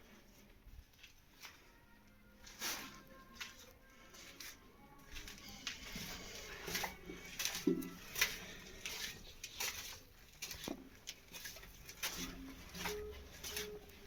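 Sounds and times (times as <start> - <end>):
footsteps on hard floor: 2.5 - 14.0.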